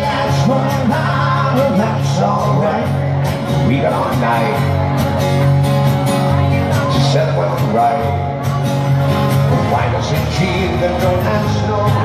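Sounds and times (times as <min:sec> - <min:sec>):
man singing into a microphone: 0:00.0 - 0:05.0, 0:06.3 - 0:12.0
acoustic guitars strummed: 0:00.0 - 0:12.0.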